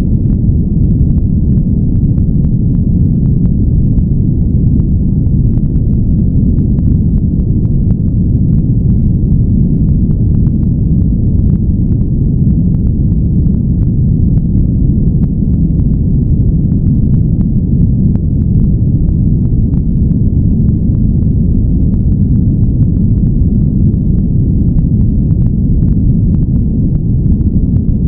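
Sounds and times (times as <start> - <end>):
deep muffled noise: 0.0 - 28.0.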